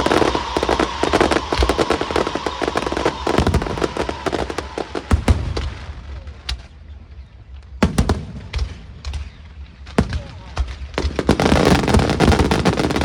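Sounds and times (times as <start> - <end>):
firework bangs: 0.0 - 6.8, 7.8 - 13.0
fireworks crackling: 0.0 - 13.0.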